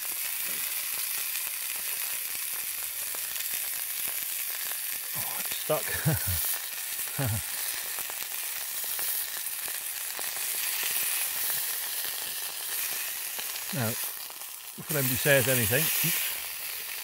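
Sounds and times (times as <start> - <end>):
steaks sizzling in a pan: 0.0 - 17.0.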